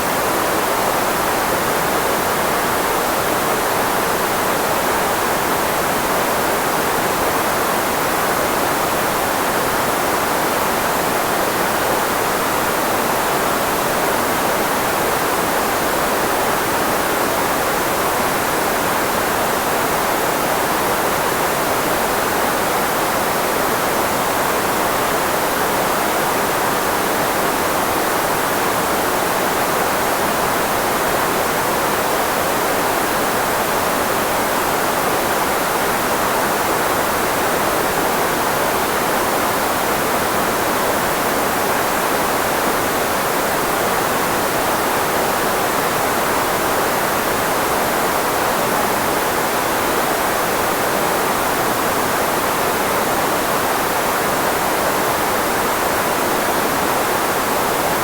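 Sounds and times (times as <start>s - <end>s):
filtered white noise: 0.0s - 58.0s.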